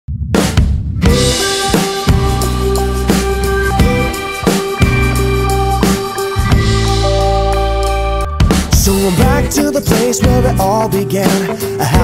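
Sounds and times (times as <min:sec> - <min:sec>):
drum kit playing: 0:00.2 - 0:12.0
held pitched notes: 0:01.1 - 0:10.8.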